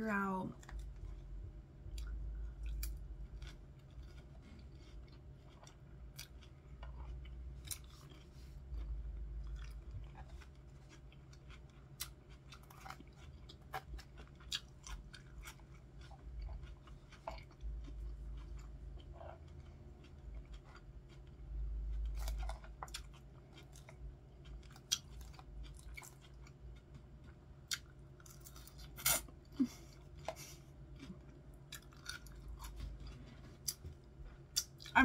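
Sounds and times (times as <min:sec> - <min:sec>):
crunchy salad chewing: 0:00.6 - 0:35.0.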